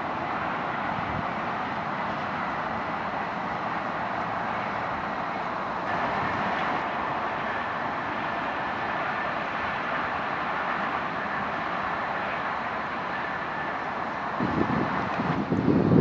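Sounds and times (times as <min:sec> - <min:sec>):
diesel locomotive running: 0:00.0 - 0:16.0.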